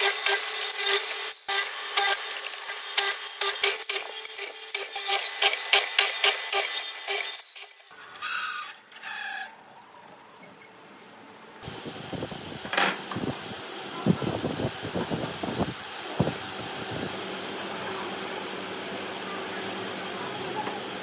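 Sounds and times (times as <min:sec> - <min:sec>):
workshop noise: 0:00.0 - 0:21.0.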